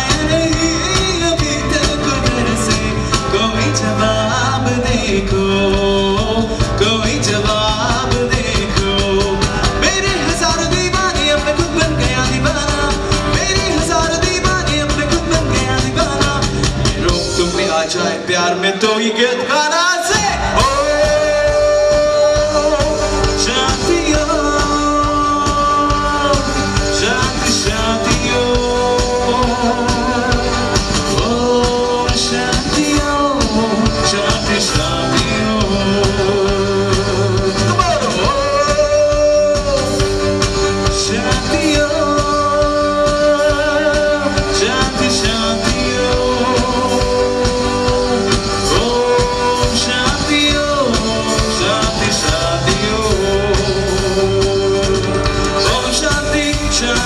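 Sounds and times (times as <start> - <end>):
live rock band playing: 0.0 - 57.0
person singing: 0.0 - 57.0.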